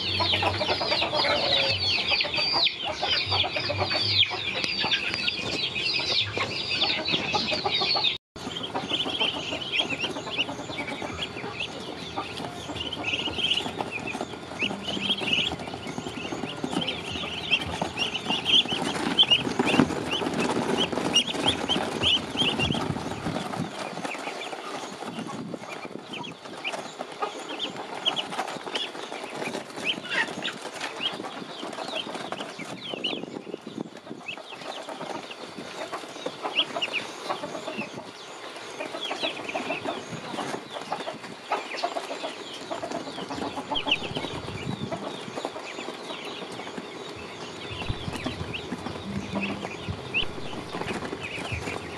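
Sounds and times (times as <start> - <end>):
ducklings peeping: 0.0 - 51.9.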